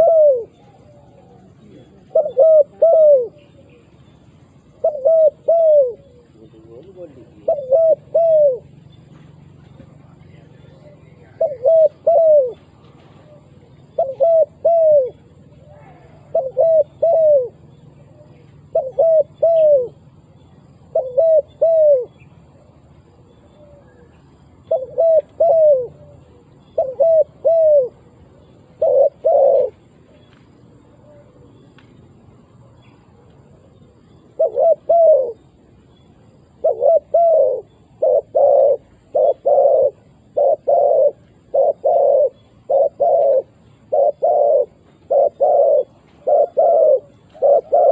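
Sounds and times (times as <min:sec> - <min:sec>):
dove cooing: 0:00.0 - 0:31.6, 0:32.4 - 0:47.9.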